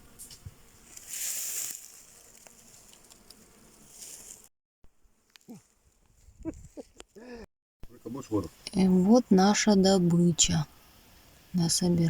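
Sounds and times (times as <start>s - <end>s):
flying insects buzzing: 0.0s - 7.3s, 8.0s - 12.0s.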